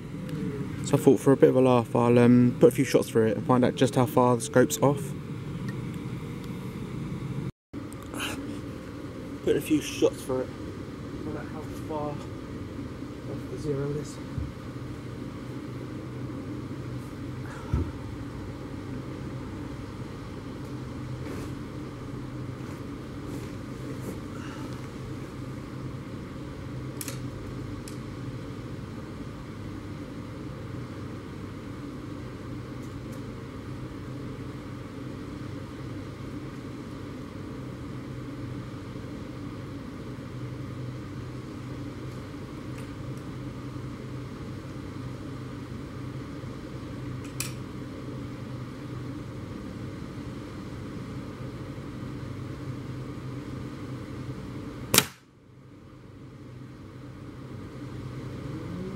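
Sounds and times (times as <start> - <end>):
low background hum: 0.0 - 58.9.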